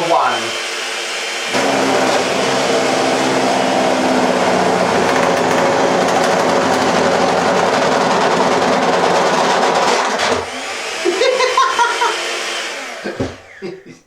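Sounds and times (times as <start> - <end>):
electric hand mixer running: 0.0 - 13.7.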